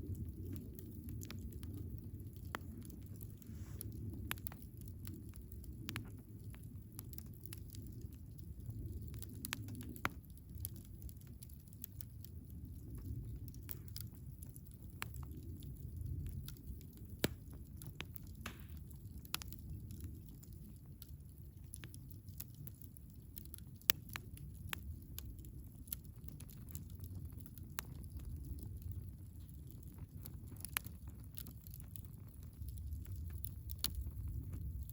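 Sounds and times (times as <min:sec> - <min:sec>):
fire pops and crackles: 0:00.0 - 0:34.9
low rumble of flames: 0:00.0 - 0:34.9.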